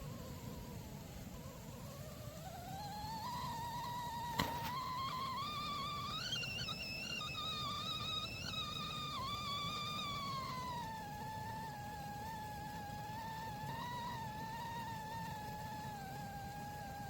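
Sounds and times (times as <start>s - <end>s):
kettle whistling: 0.0s - 17.0s.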